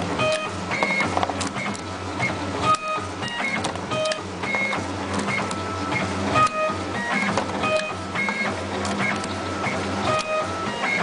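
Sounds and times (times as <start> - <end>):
machine motors whining: 0.0 - 11.0
steady low hum: 0.0 - 11.0.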